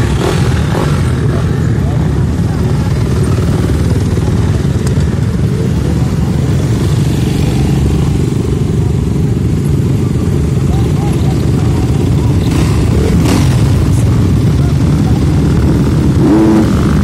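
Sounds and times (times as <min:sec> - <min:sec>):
motocross bike engines droning: 0:00.0 - 0:17.0.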